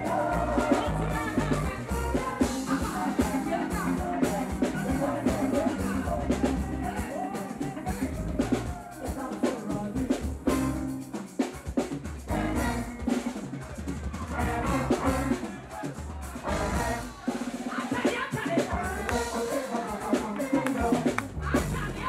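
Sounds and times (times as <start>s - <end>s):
drum kit and hand drums beat: 0.0s - 22.0s
live instrumental band music: 0.0s - 22.0s.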